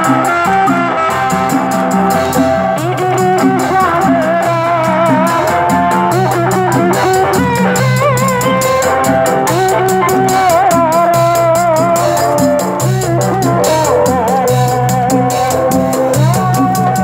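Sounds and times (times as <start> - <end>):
drums: 0.0 - 17.0
ornamented wavering melody: 0.0 - 17.0
procession music over loudspeakers: 0.0 - 17.0.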